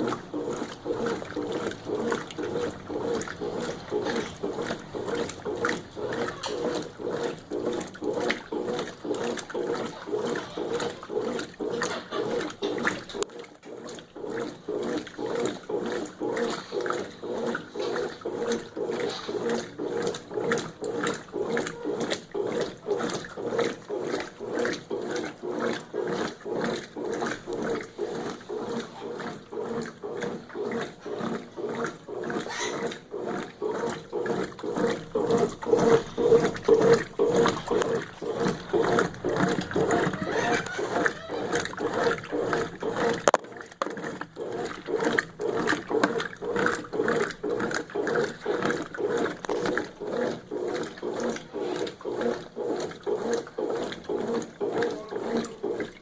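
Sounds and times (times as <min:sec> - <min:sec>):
motor hum: 0:00.0 - 0:56.0
washing machine churning: 0:00.0 - 0:56.0.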